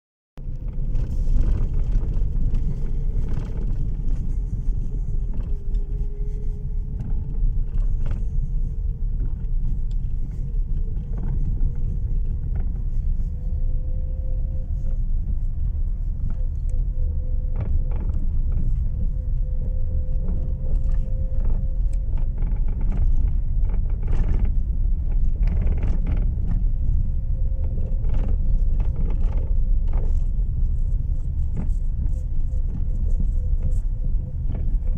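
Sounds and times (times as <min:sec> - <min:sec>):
low rumble of car: 0:00.4 - 0:34.9.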